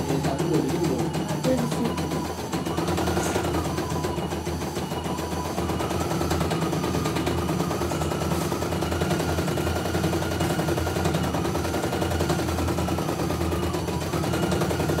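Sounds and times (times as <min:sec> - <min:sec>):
motor whine: 0:00.0 - 0:15.0.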